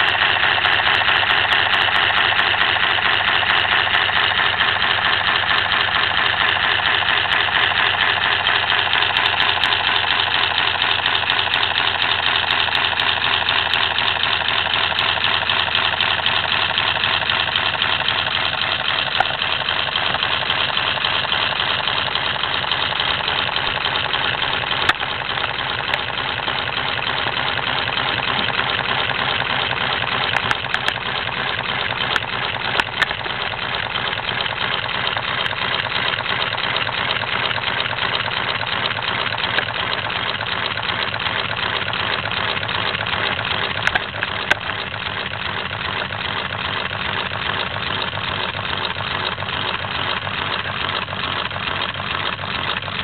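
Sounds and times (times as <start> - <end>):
pneumatic engine clattering: 0.0 - 53.0
sharp clicks: 0.0 - 53.0.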